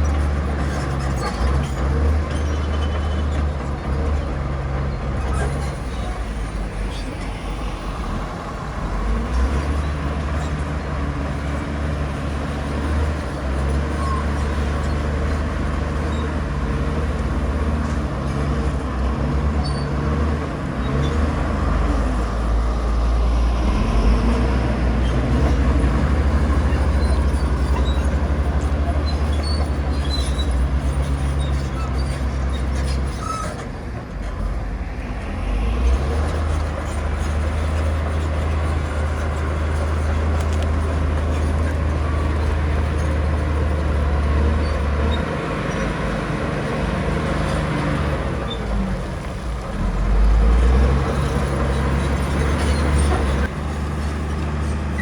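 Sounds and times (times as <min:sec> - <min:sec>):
diesel engine droning under load: 0:00.0 - 0:55.0.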